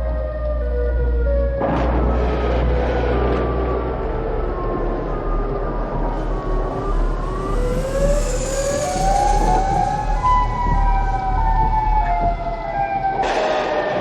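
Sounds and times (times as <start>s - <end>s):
air-raid sirens wailing: 0.0s - 14.0s.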